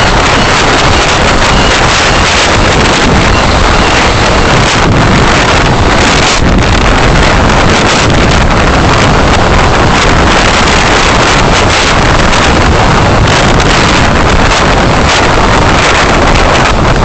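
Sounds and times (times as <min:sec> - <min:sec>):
car road noise: 0:00.0 - 0:17.0
rushing wind: 0:00.0 - 0:17.0.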